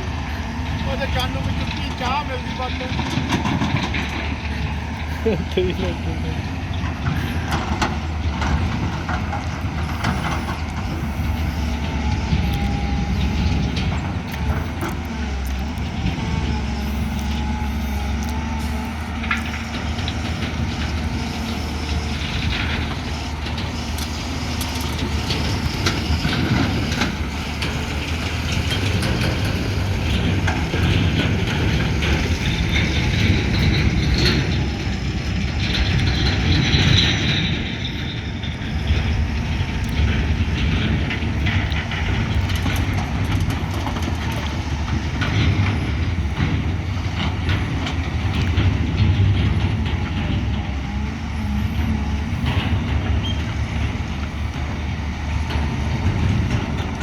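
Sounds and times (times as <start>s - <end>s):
excavator engine running: 0.0s - 57.0s
clanks and scrapes: 6.8s - 54.7s.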